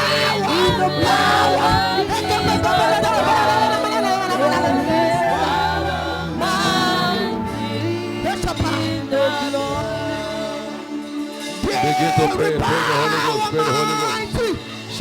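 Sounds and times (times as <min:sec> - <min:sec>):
backing music: 0:00.0 - 0:15.0
congregation praying and singing: 0:00.0 - 0:15.0.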